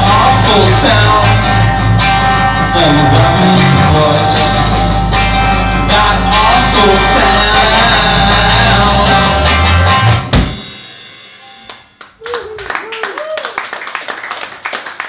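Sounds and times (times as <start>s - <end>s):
rock band playing live: 0.0s - 12.2s.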